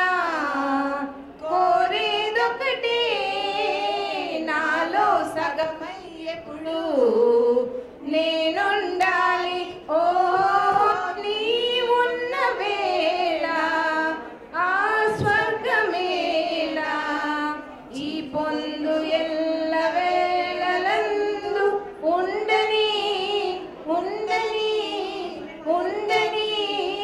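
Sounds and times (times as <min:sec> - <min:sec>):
women singing: 0:00.0 - 0:27.0.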